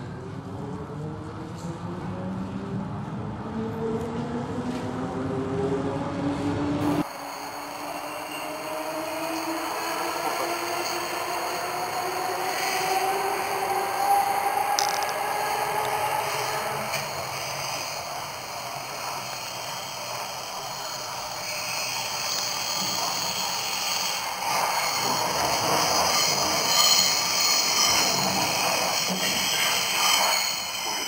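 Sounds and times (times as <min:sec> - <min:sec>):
rising whine: 0:00.3 - 0:31.0
train wheels on rail: 0:03.7 - 0:31.0.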